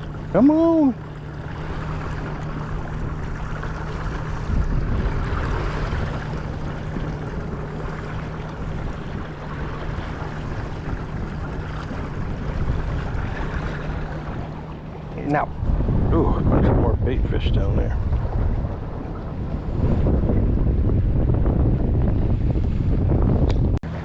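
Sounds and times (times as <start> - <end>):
boat motor humming: 0.0 - 24.0
water noise: 0.0 - 24.0
wind: 0.0 - 24.0.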